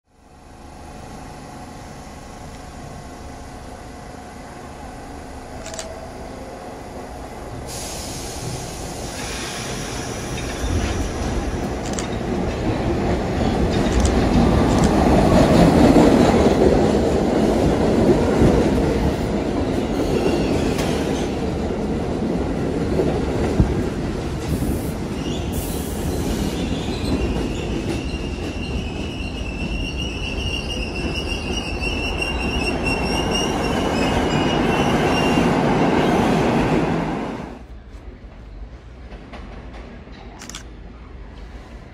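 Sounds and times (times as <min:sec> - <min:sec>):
train wheels on rails: 0:04.0 - 0:41.9.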